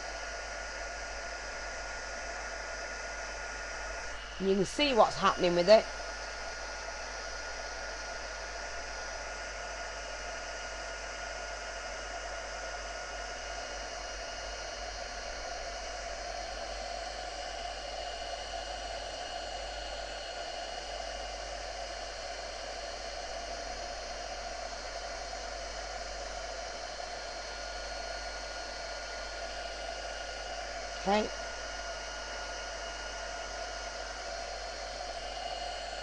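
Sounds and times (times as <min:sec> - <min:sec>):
faint steady whine: 0:00.0 - 0:36.0
heat gun blowing air: 0:00.0 - 0:36.0.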